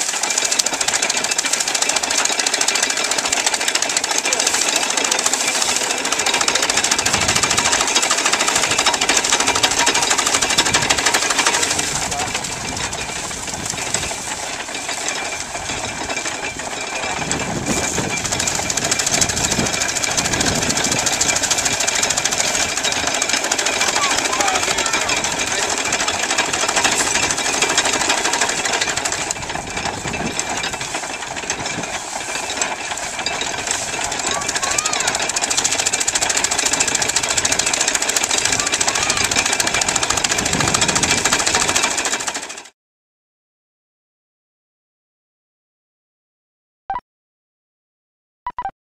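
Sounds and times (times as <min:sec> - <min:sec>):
corn chopper clattering: 0:00.0 - 0:42.7.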